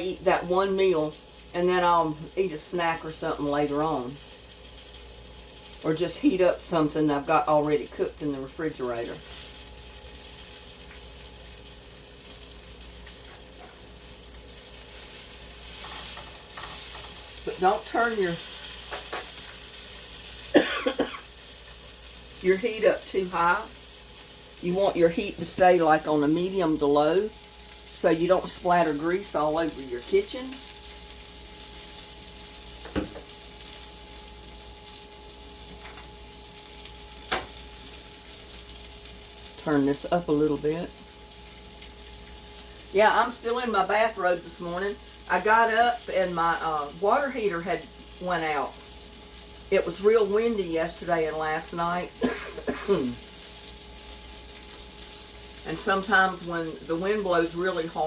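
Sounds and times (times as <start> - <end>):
sausage sizzling in a pan: 0.0 - 58.0.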